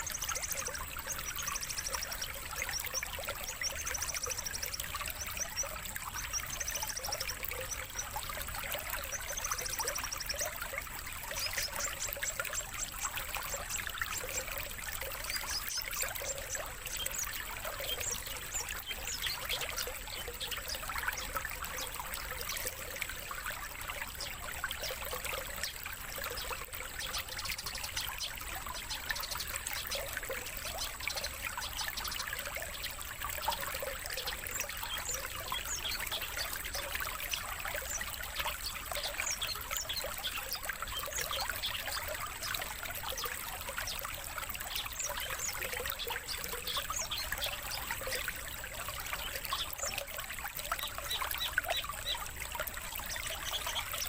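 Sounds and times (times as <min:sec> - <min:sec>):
songbird chirps and twitters: 0:00.0 - 0:54.0
trickle of running water: 0:00.0 - 0:54.0.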